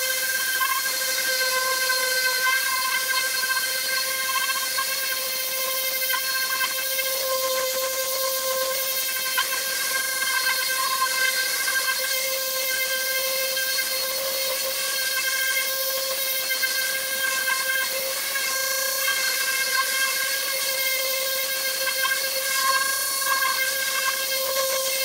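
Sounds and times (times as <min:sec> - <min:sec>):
sander motor whine: 0:00.0 - 0:25.0.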